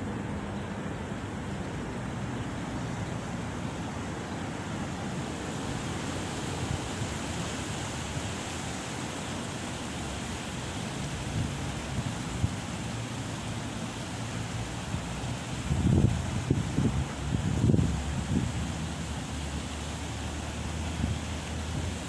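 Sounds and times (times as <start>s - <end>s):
wind rumble on microphone: 0.0s - 22.0s
wind through palm fronds: 0.0s - 22.0s.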